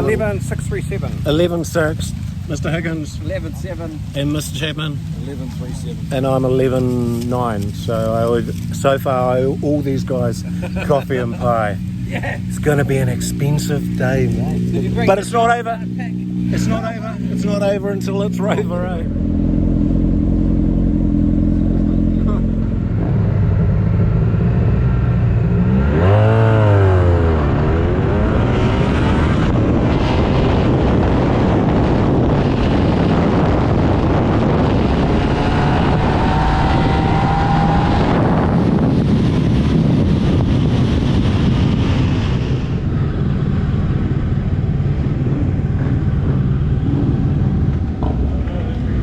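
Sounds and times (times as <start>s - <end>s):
faint rising whine: 0.0s - 49.0s
motorcycle engine idling and revving: 0.0s - 49.0s.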